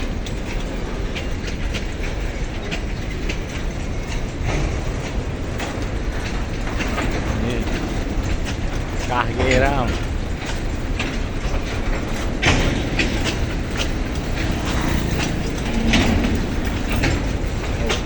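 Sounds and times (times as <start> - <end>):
freight train rumbling: 0.0 - 18.0
wheels clacking over rails: 0.0 - 18.0.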